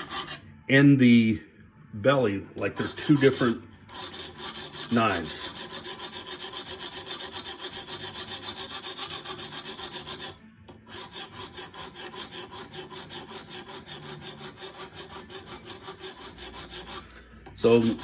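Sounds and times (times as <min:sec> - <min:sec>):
sharpening stone scraping knife: 0:00.0 - 0:00.6, 0:02.6 - 0:18.0.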